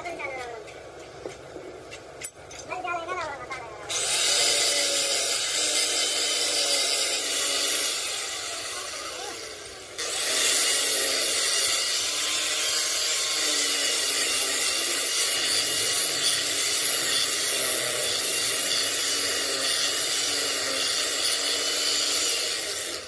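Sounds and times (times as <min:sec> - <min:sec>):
hissing metalworking noise: 0:00.0 - 0:23.0.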